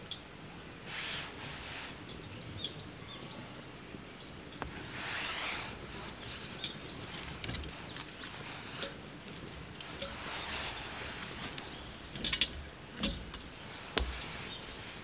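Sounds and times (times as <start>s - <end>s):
wood fire crackling: 0.0s - 15.0s
small birds chirping: 1.6s - 15.0s.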